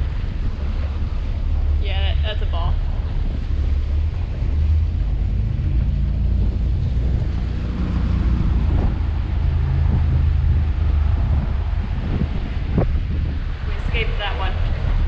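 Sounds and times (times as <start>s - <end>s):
boat engine drone: 0.0s - 15.0s
water rushing past hull: 0.0s - 15.0s
wind buffeting microphone: 0.0s - 15.0s.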